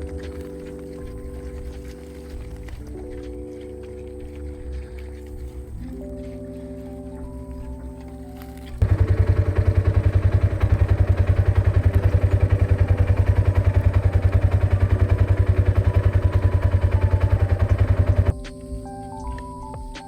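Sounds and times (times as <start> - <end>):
engine idling: 0.0 - 18.3.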